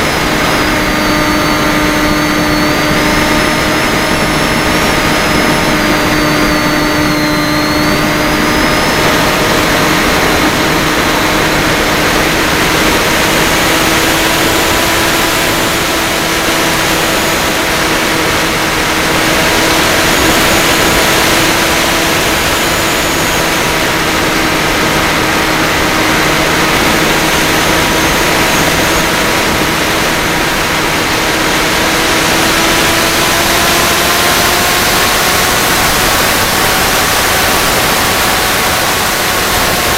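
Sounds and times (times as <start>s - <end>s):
electric motor and propeller whine: 0.0s - 39.9s
wind noise: 0.0s - 39.9s.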